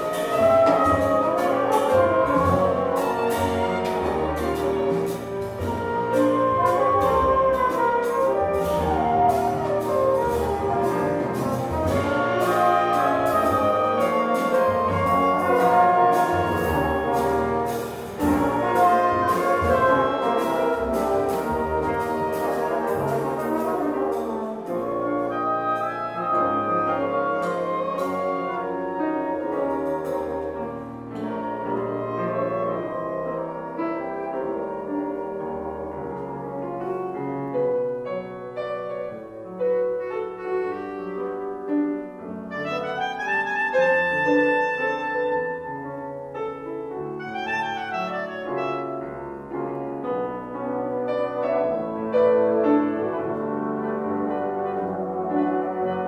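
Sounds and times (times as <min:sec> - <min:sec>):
horns: 0:00.0 - 0:56.0
jazz ensemble playing: 0:00.0 - 0:56.0.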